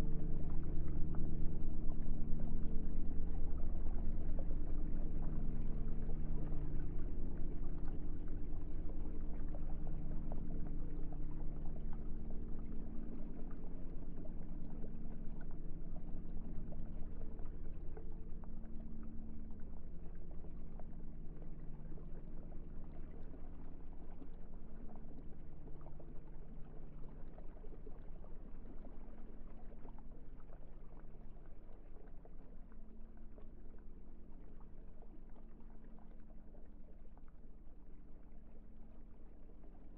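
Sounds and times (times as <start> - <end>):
fine water-like crackling: 0.0 - 39.9.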